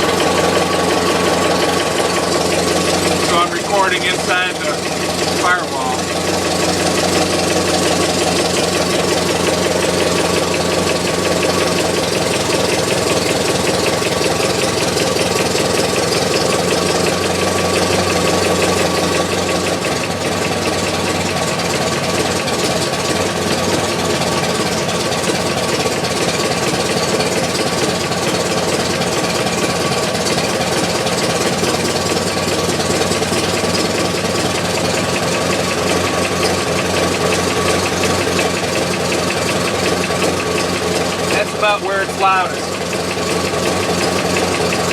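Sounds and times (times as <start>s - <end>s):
car engine running with knock: 0.0s - 44.9s.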